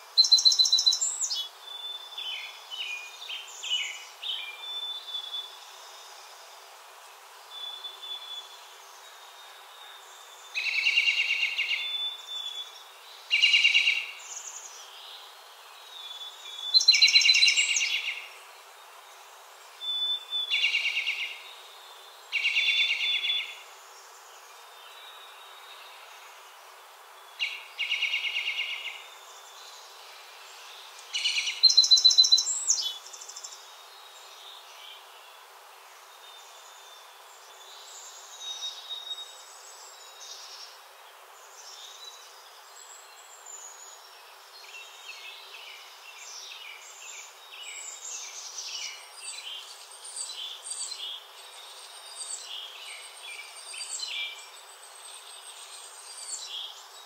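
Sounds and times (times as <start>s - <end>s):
background hiss: 0.0s - 57.0s
songbirds singing: 0.0s - 57.0s.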